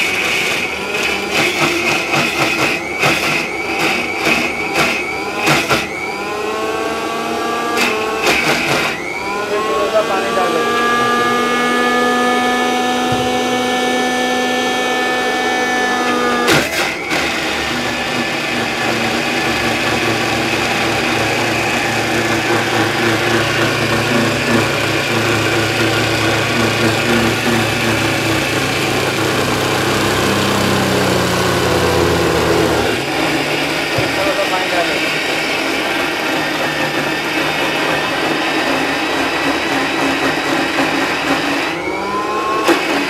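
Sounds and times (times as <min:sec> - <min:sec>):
mixer grinder motor whine: 0:00.0 - 0:43.0.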